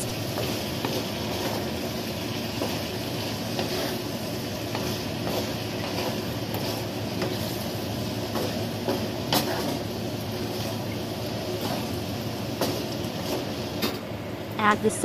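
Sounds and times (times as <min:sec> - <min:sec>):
spatula scraping and knocking a wok: 0:00.0 - 0:10.8, 0:11.4 - 0:14.0
frying hiss: 0:00.0 - 0:15.0.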